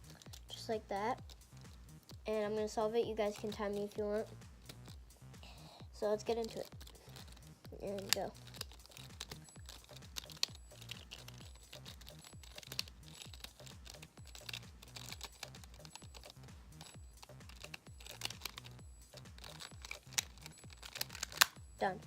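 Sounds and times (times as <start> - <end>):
puzzle pieces clicking: 0.0 - 21.6
background music with bass: 0.0 - 22.0.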